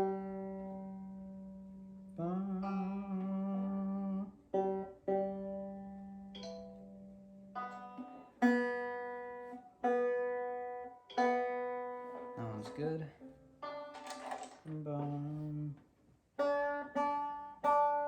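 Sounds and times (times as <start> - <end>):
banjo strings plucked: 0.0 - 18.0.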